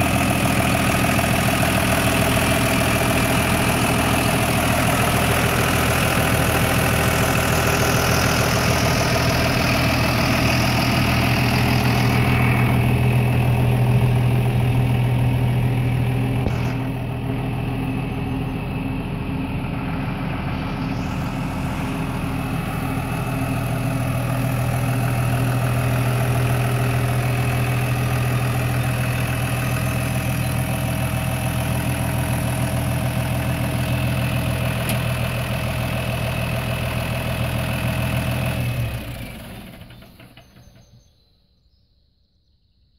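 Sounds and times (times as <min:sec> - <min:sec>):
tractor diesel engine idling: 0:00.0 - 0:41.2.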